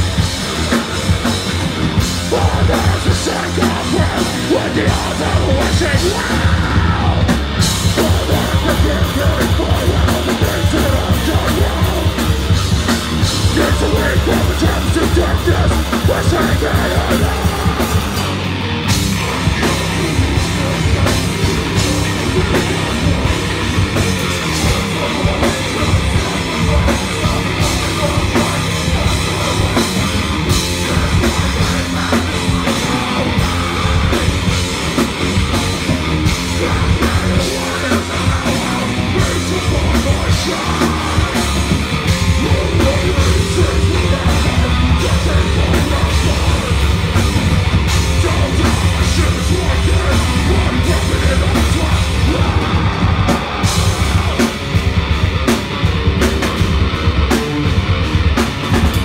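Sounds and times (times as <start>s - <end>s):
bass guitar: 0.0s - 59.0s
distorted electric guitar: 0.0s - 59.0s
drum kit: 0.0s - 59.0s.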